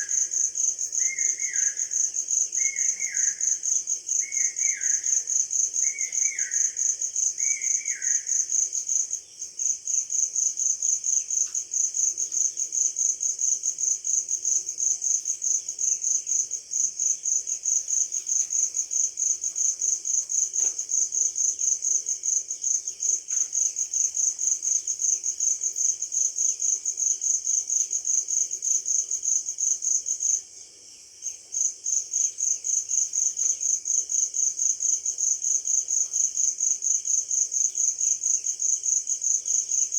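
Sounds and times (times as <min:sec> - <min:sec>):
insect chirping trill: 0:00.0 - 0:39.9.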